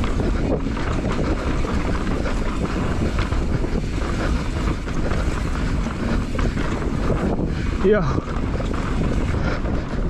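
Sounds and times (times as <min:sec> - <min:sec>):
bike knocks and rattles: 0:00.0 - 0:10.0
tyres rumbling on dirt: 0:00.0 - 0:10.0
wind buffeting microphone: 0:00.0 - 0:10.0.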